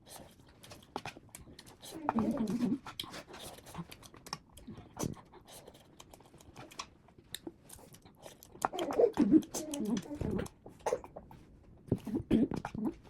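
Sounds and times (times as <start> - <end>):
close-miked chewing: 0.0 - 13.0.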